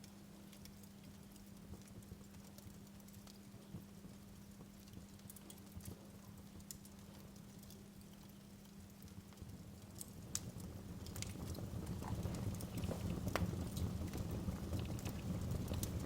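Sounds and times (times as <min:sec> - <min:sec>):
faint steady hum: 0:00.0 - 0:16.0
wood fire crackling: 0:00.0 - 0:16.0.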